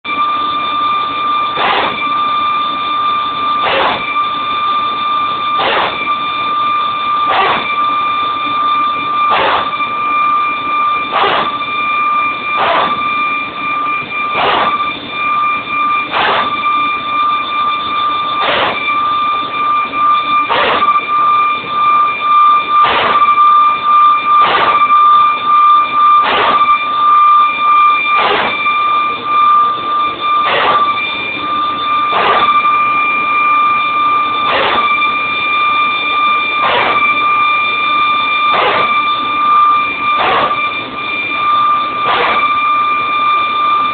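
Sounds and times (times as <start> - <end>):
hydraulic pump whining and barking: 0.1 - 43.9.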